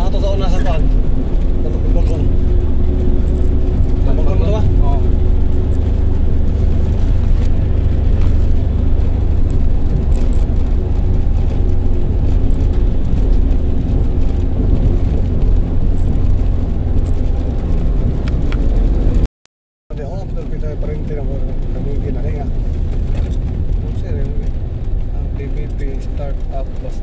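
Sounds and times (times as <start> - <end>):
vehicle engine and road rumble: 0.0 - 19.3, 19.9 - 27.0.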